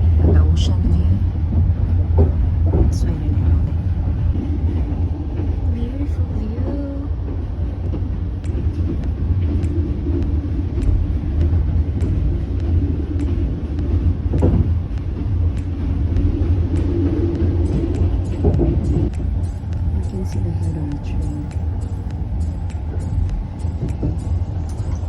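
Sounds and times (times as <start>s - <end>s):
train carriage rumble: 0.0s - 25.0s.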